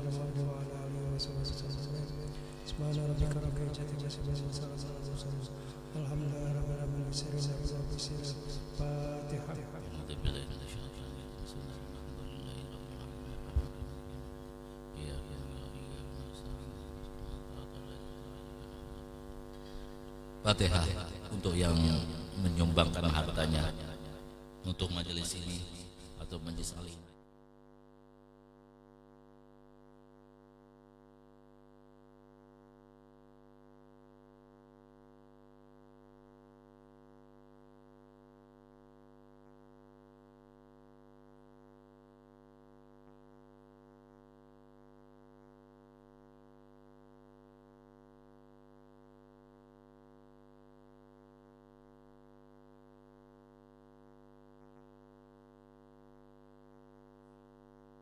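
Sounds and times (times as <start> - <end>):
faint mains hum: 0.0 - 58.0.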